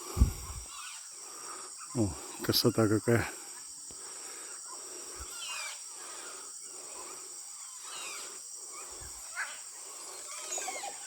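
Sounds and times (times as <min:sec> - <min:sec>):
high-pitched insect chorus: 0:00.0 - 0:11.0
jungle birds calling: 0:00.0 - 0:11.0.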